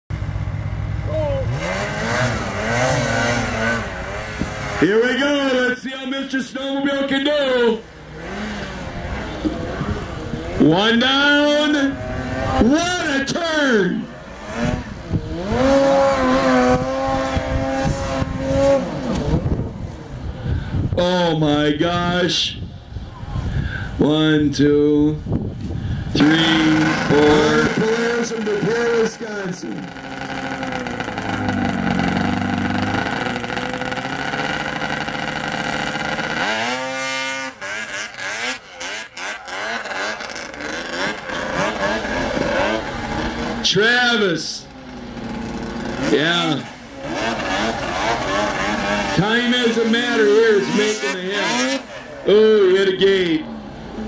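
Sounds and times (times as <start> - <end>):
snowmobile engine revving: 0.2 - 20.4, 26.0 - 54.0.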